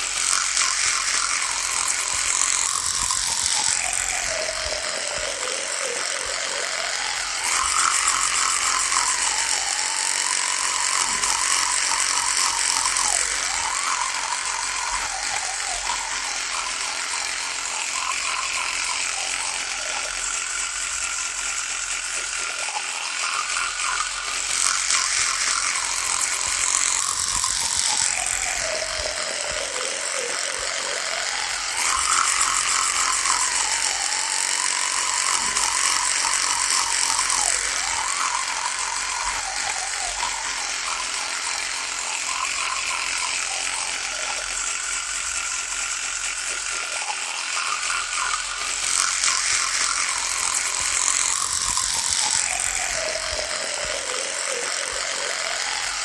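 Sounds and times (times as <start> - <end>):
electric toothbrush buzzing: 0.0 - 56.0.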